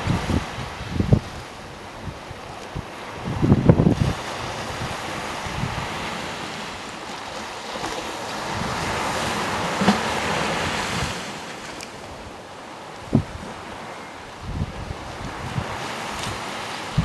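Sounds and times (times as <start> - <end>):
wind buffeting microphone: 0.0 - 12.4, 13.0 - 17.0
surf washing onto beach: 0.0 - 17.0.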